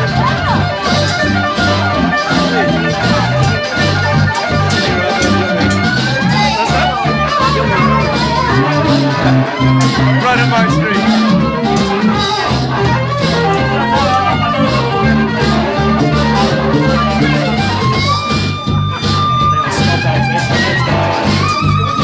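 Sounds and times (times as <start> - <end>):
acoustic guitar: 0.0 - 22.0
drums: 0.0 - 22.0
electric bass line: 0.0 - 22.0
lead instrument: 0.0 - 22.0.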